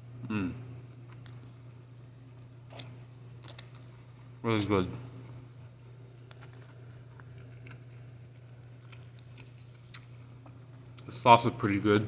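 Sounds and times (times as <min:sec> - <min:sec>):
steady low hum: 0:00.0 - 0:12.0
chewing crispy food: 0:00.8 - 0:12.0.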